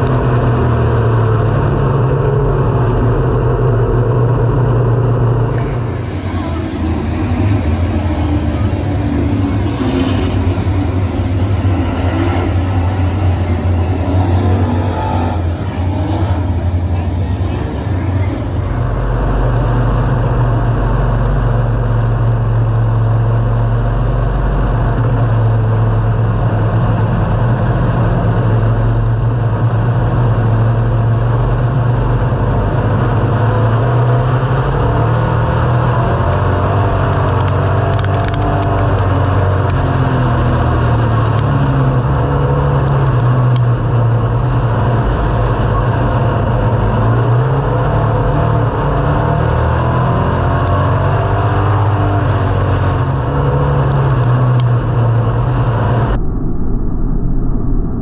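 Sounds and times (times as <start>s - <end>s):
race car engine running: 0.0s - 56.3s.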